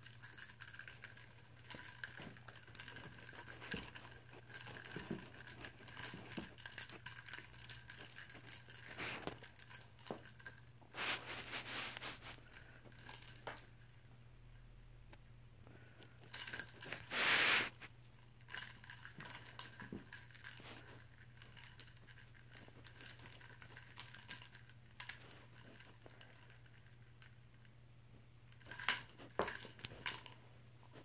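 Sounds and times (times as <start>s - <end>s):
plastic straws crinkling and rattling: 0.0s - 14.0s, 16.0s - 27.8s, 28.5s - 31.0s
faint steady hum: 0.0s - 31.0s.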